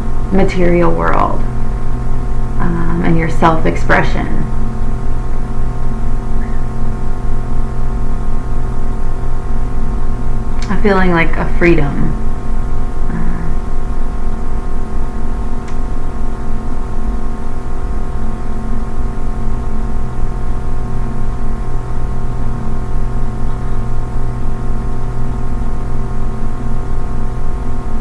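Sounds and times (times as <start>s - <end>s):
droning hum of held tones: 0.0s - 28.0s.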